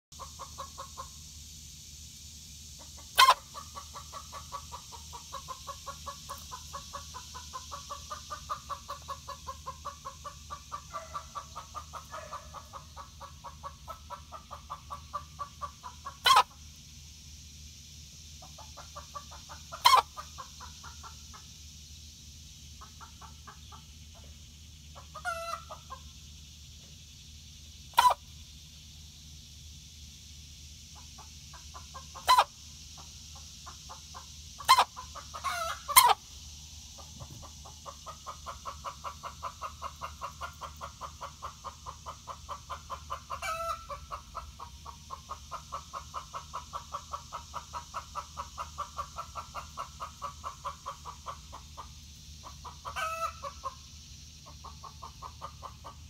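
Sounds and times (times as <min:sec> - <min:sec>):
chicken trilling clucks: 0:00.2 - 0:01.5, 0:02.6 - 0:17.0, 0:18.2 - 0:27.0, 0:27.6 - 0:28.9, 0:30.8 - 0:56.0.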